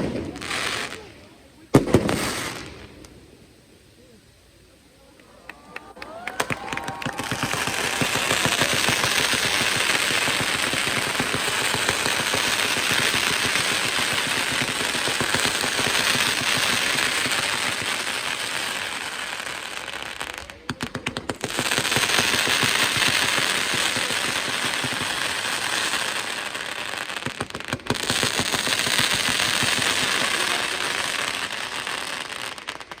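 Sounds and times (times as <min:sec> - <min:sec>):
fireworks bangs and crackling: 0:00.0 - 0:04.2, 0:05.2 - 0:33.0.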